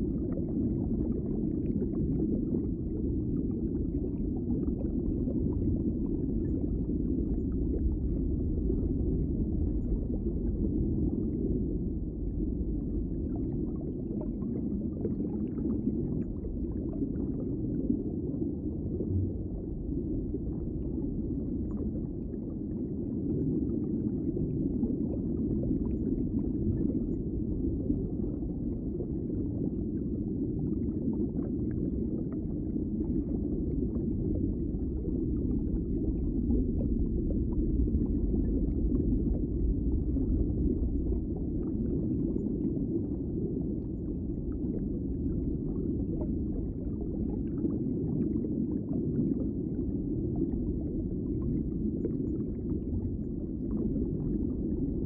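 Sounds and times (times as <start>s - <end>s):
muffled underwater rumble: 0.0s - 55.0s.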